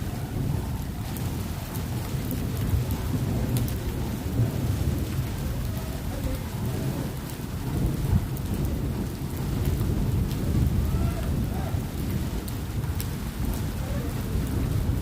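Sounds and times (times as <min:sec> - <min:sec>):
rain falling: 0:00.0 - 0:15.0
raindrop ticks: 0:00.0 - 0:15.0
thunder rumbling: 0:00.0 - 0:15.0.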